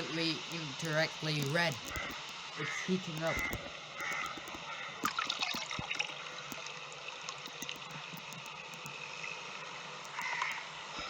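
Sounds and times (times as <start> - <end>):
small electrical clicks: 0.0 - 11.0
steady hiss: 0.0 - 11.0.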